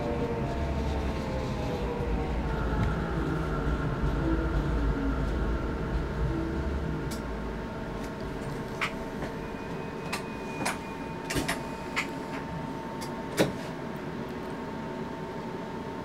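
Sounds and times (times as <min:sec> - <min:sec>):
train cab hum: 0:00.0 - 0:16.0.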